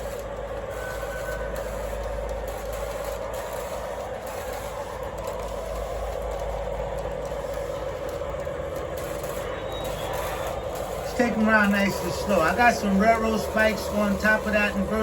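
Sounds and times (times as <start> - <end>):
electric motor hum: 0.0 - 15.0
model train wheels rumbling on rails: 0.0 - 15.0.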